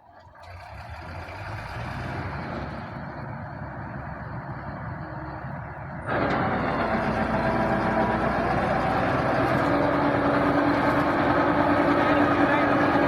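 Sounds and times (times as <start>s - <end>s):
combine harvester mechanical drone: 0.1s - 13.0s.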